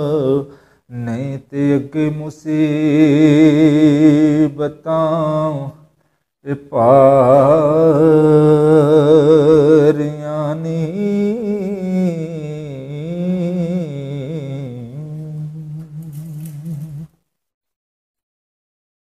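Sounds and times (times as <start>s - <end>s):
man singing with vibrato: 0.0s - 17.2s.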